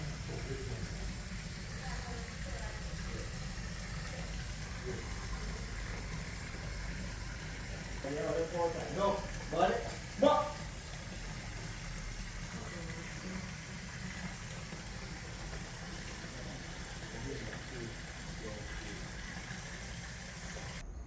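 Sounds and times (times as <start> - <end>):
background hum and hiss: 0.0 - 21.0.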